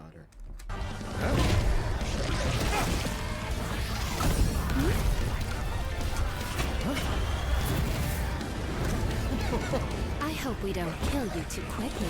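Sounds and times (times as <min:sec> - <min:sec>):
soundtrack music: 0:00.5 - 0:12.0.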